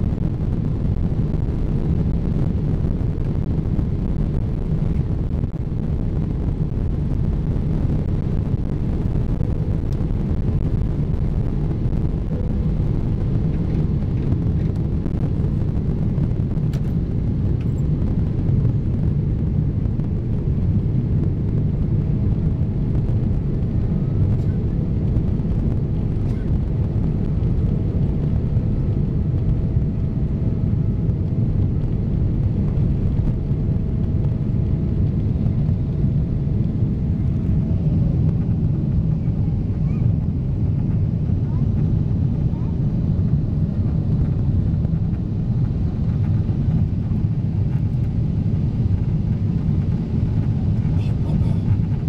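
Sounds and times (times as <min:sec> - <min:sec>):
jet engines rumbling in cabin: 0:00.0 - 0:52.0.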